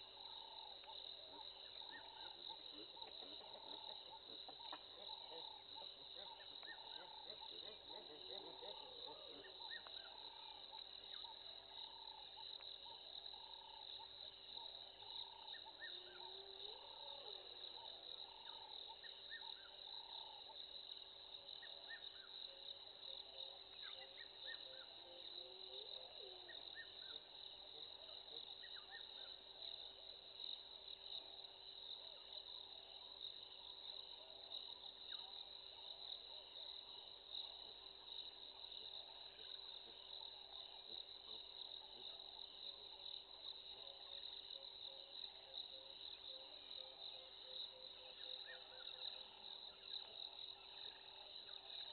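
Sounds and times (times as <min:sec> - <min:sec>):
crickets and insects chorus: 0:00.0 - 0:51.9
repeating insect call: 0:00.0 - 0:51.9.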